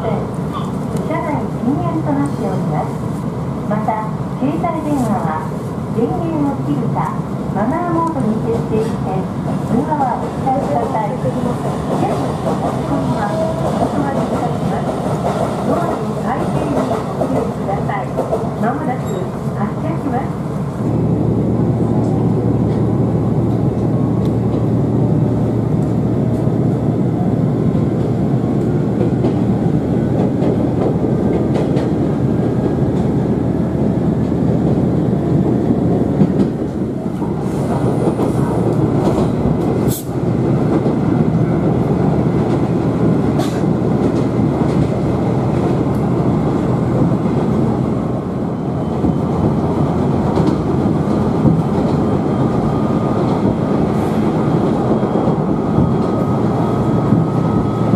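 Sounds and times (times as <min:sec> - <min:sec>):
train engine drone: 0:00.0 - 0:57.9.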